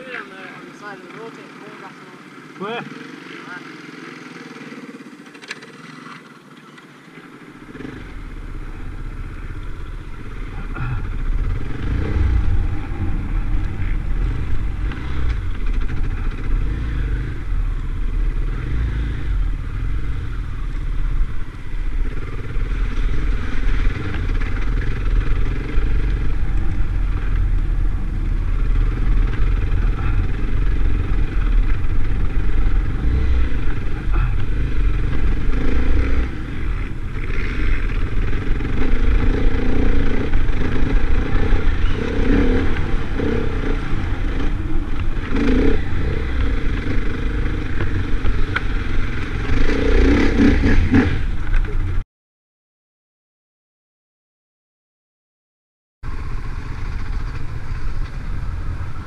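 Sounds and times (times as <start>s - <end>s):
motorcycle engine rumbling: 0.0s - 52.0s, 56.0s - 59.0s.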